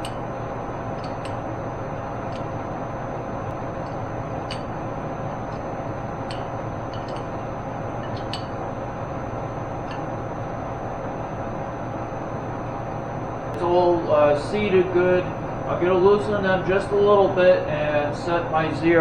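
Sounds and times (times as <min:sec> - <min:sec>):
workshop hum and hiss: 0:00.0 - 0:19.0.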